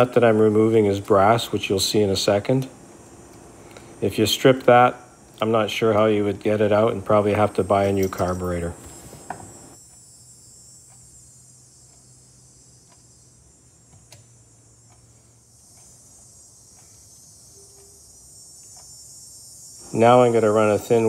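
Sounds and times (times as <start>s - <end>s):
faint hiss and low hum: 0.0s - 21.0s.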